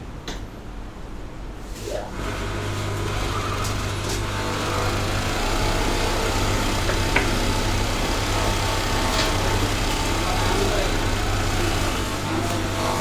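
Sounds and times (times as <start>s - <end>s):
sewing machine running: 2.1s - 13.0s.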